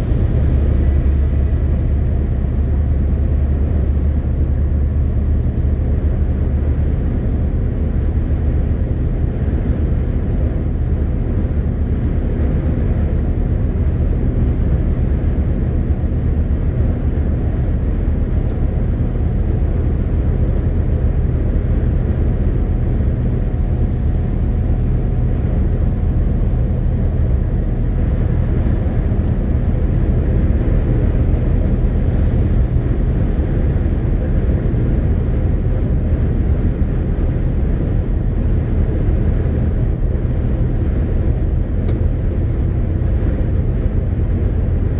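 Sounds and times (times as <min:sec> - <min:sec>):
truck driving at cruising speed: 0:00.0 - 0:44.9.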